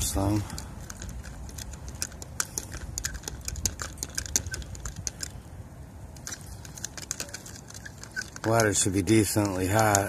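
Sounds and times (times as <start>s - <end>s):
low rumble of wind: 0.0s - 10.0s.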